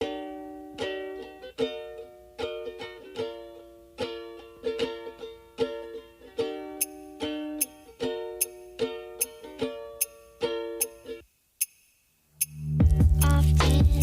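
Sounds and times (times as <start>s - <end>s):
plucked string chords: 0.0s - 11.2s, 12.4s - 14.0s.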